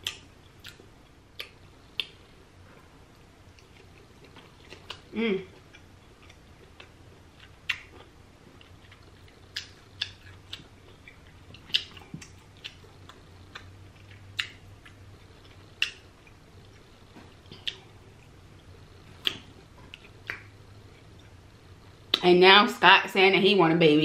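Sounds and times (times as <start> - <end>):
person chewing with lip smacks: 0.0 - 0.8, 1.4 - 2.3, 3.5 - 22.2.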